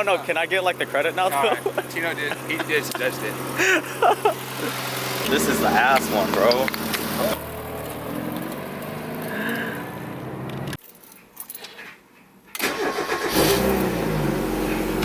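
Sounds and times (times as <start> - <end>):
car engine running: 0.0 - 10.8, 13.3 - 15.0
car engine starting and revving: 0.3 - 10.8, 12.6 - 15.0.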